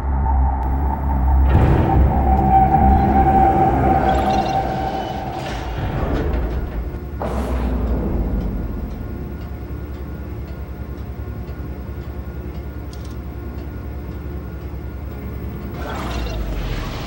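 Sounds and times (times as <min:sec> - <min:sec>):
low rumbling ambient drone: 0:00.0 - 0:17.0.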